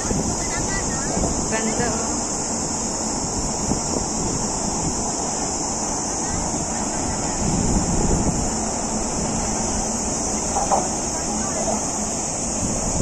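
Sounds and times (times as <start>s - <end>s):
high-pitched hiss: 0.0s - 13.0s
wind on microphone: 0.0s - 13.0s.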